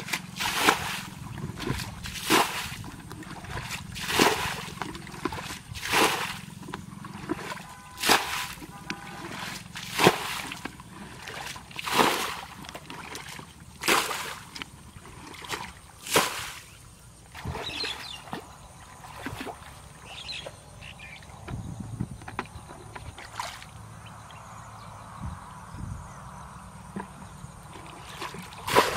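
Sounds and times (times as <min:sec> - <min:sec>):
water splashing: 0:00.0 - 0:20.6, 0:22.9 - 0:24.4, 0:26.9 - 0:28.9
water sloshing: 0:00.0 - 0:24.6, 0:26.8 - 0:28.9.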